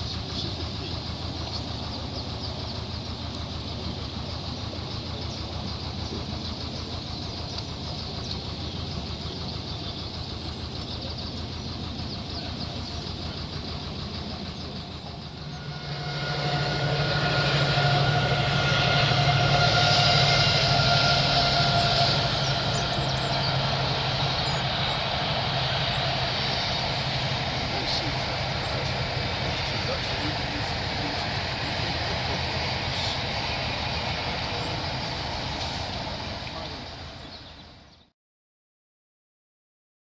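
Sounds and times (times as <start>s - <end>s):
rumble with steady hum: 0.0s - 37.3s
diesel engine running: 0.0s - 38.0s.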